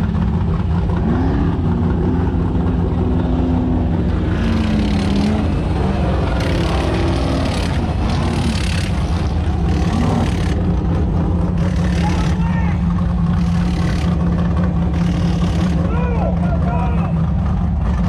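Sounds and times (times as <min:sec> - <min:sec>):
bursts of harsh engine noise: 0:00.0 - 0:18.0
race car engines running: 0:00.0 - 0:18.0.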